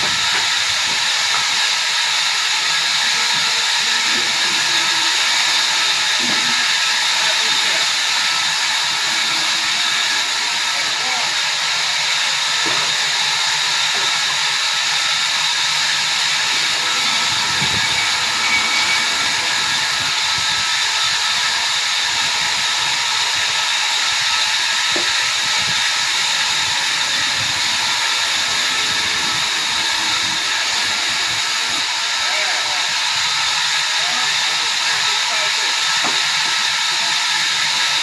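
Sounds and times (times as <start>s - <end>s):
sawmill machinery hissing: 0.0s - 38.0s.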